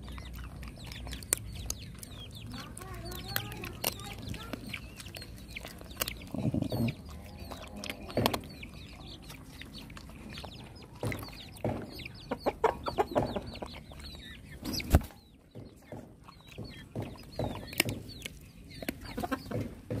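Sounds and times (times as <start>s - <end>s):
dog crunching bones: 0.0s - 14.7s, 15.6s - 20.0s
chickens clucking: 0.0s - 20.0s.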